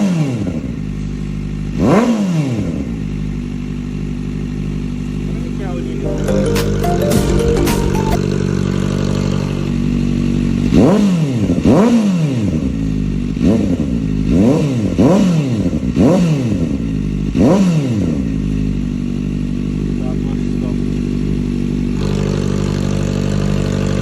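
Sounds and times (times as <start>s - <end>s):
motorcycle engine idling and revving: 0.0s - 6.0s, 8.4s - 24.0s.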